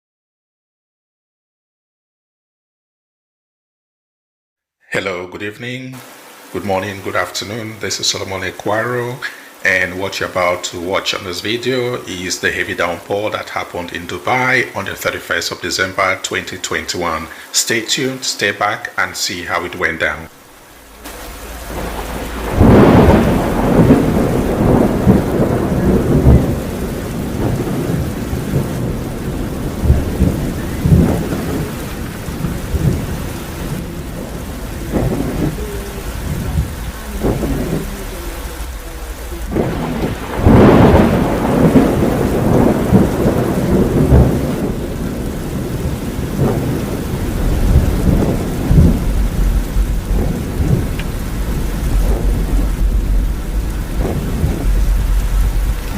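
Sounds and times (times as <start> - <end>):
heavy rain pouring: 5.0 - 55.9.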